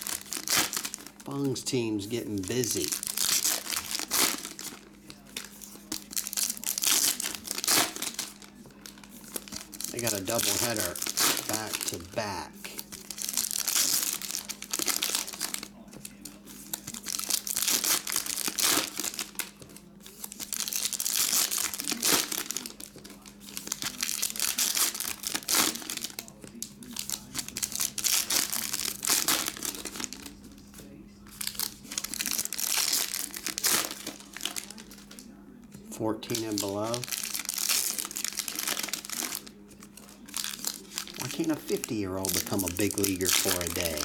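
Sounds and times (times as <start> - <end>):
foil wrappers crinkling and tearing: 0.0 - 35.4, 36.2 - 44.0.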